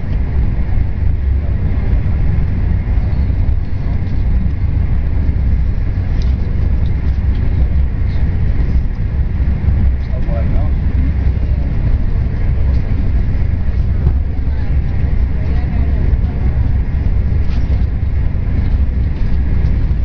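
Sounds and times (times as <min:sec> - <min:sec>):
train cabin rumble and rush: 0:00.0 - 0:20.0.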